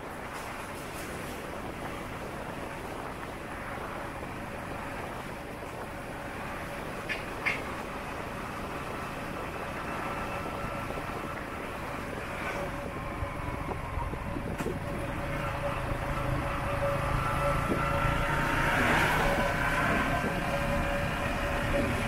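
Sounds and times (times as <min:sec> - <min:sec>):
vehicles passing: 0:00.1 - 0:22.0.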